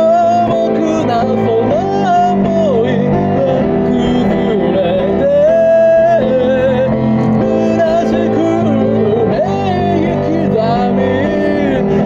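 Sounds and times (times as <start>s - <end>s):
guitar chords: 0.0s - 12.0s
person singing: 0.0s - 12.0s.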